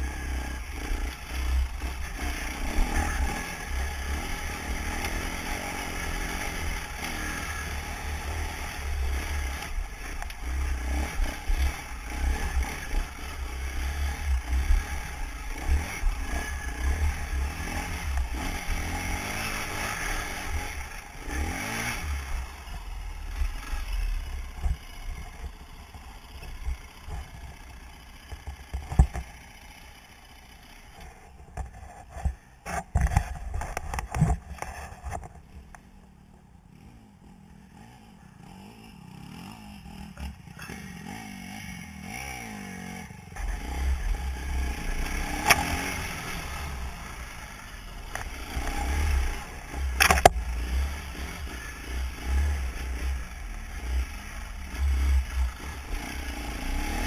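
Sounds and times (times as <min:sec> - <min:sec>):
dirt bike engine revving: 0:00.0 - 0:30.8, 0:36.7 - 0:57.0.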